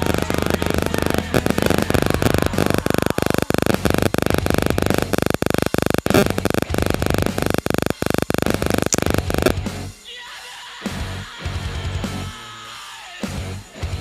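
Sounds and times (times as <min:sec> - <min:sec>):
harsh distorted music: 0:00.0 - 0:10.1, 0:10.7 - 0:14.0.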